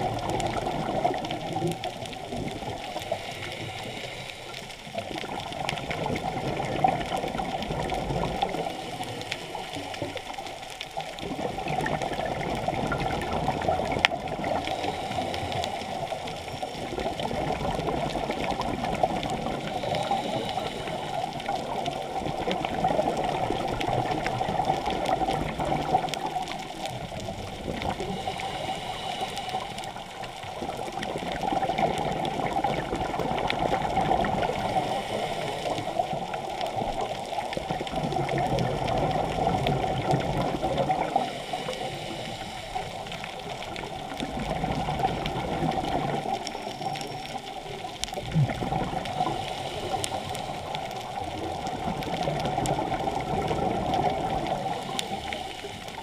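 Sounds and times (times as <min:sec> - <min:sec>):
muffled underwater water noise: 0:00.0 - 0:56.0.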